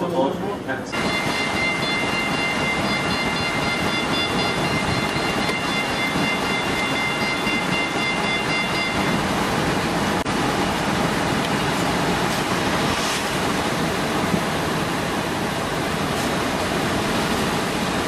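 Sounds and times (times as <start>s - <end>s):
steady rushing noise on ferry: 0.0s - 18.0s.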